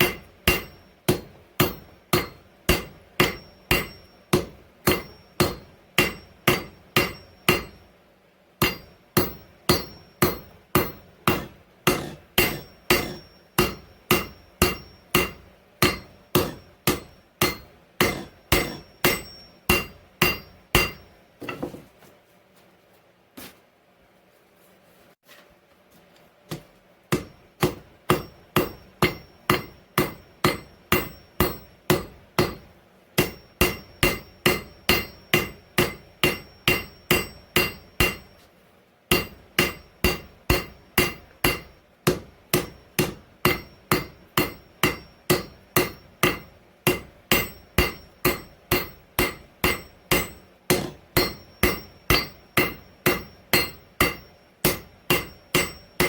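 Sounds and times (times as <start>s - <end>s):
hammer striking steel on anvil: 0.0s - 8.0s, 8.6s - 21.8s, 26.5s - 38.5s, 39.1s - 56.0s
faint metallic ring: 0.0s - 11.1s, 12.0s - 21.8s, 27.2s - 42.0s, 42.6s - 56.0s.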